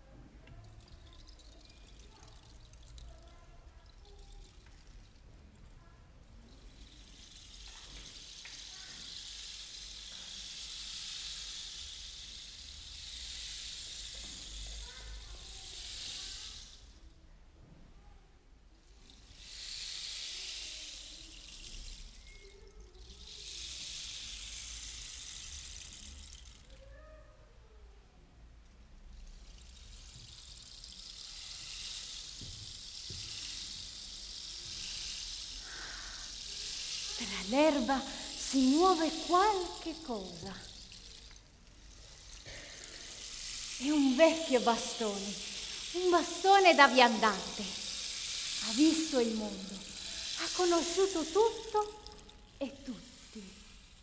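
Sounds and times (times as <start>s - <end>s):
rainstick trickling hiss: 0.0s - 17.1s, 18.8s - 27.3s, 29.0s - 54.0s.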